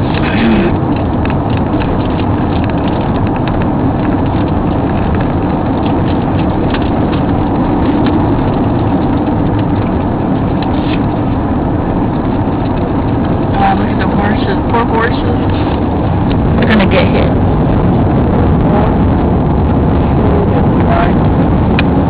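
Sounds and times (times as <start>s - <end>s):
car cabin rumble and hiss: 0.0s - 22.0s.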